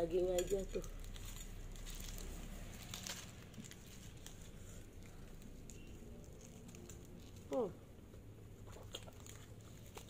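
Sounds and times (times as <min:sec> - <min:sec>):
aluminium foil crinkling: 0:00.0 - 0:08.0, 0:08.6 - 0:10.0.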